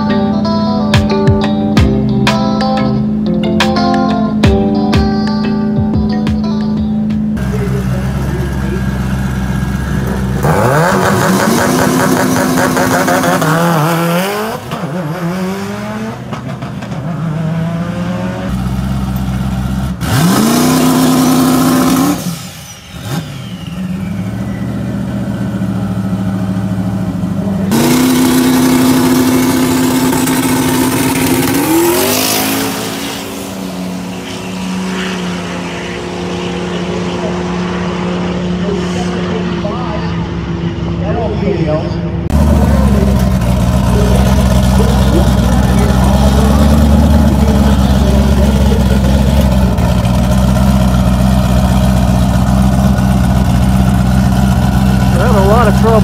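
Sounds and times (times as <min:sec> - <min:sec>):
car engine revving: 0:07.1 - 0:56.0.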